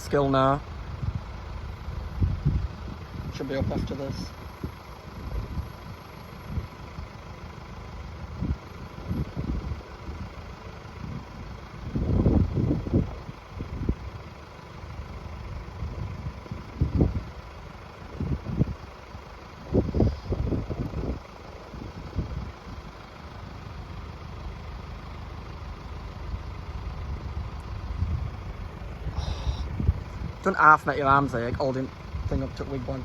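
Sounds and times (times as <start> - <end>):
low outdoor rumble: 0.0 - 33.0
wind buffeting microphone: 0.8 - 7.2, 8.1 - 14.4, 15.0 - 24.0, 26.2 - 33.0.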